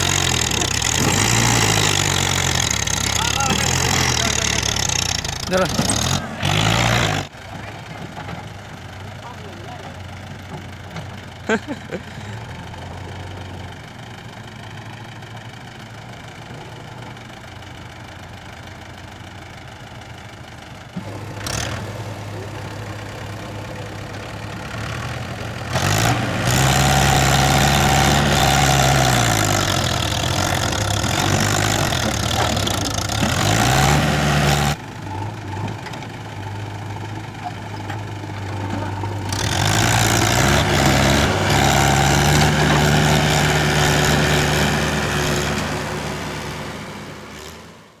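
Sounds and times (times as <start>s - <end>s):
backhoe loader engine revving: 0.0s - 48.0s
tractor diesel engine revving: 0.0s - 48.0s.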